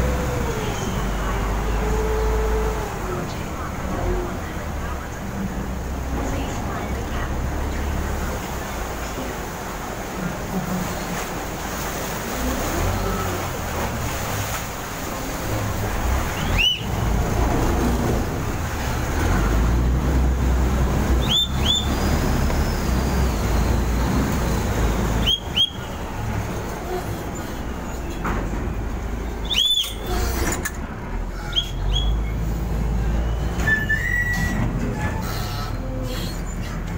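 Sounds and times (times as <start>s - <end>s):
boat engine low rumble: 0.0s - 36.9s
churning water: 0.0s - 36.9s.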